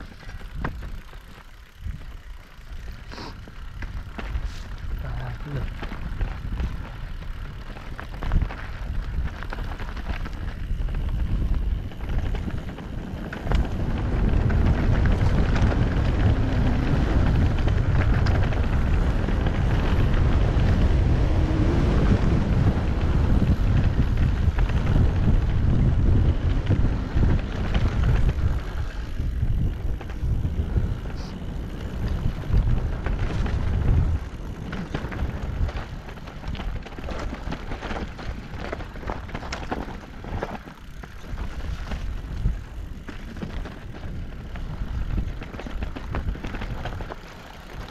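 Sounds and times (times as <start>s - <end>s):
bike clattering over stones: 0.0s - 47.9s
bike tyres rolling: 0.0s - 47.9s
wind buffeting microphone: 0.0s - 47.9s.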